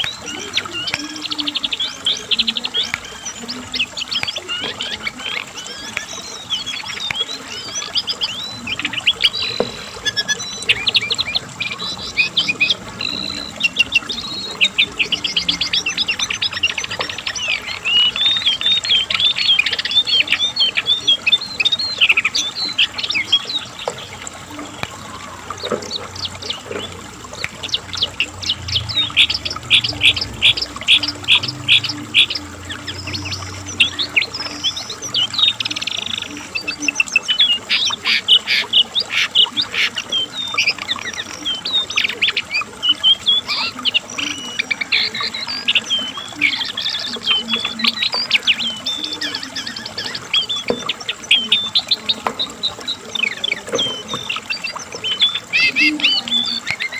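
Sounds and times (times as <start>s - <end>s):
bird singing chirps and trills: 0.0s - 56.9s.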